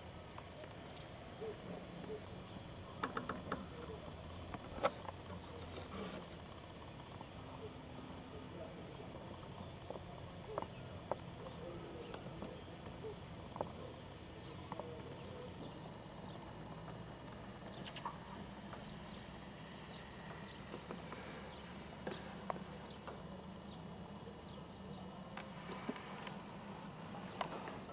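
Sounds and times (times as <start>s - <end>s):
low steady hum: 0.0s - 27.9s
thin high whine: 0.0s - 27.9s.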